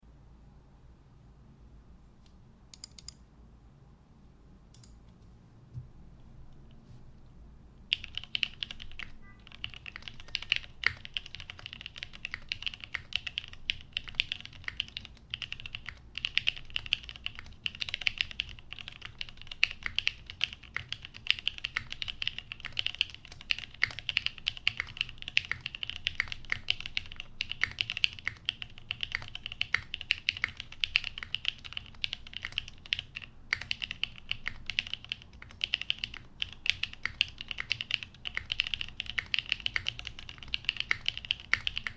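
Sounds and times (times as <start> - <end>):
mechanical keyboard typing: 2.7 - 3.2, 7.9 - 41.9.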